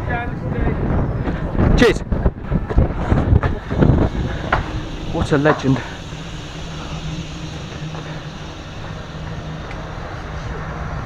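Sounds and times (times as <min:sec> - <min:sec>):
steady rumbling hum: 0:01.2 - 0:11.0.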